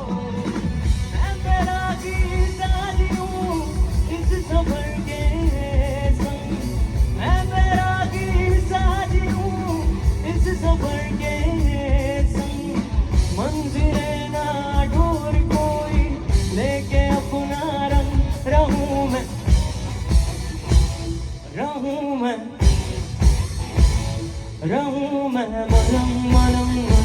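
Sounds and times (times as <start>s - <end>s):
drum kit beat: 0.0s - 21.5s, 22.6s - 25.0s, 25.6s - 27.0s.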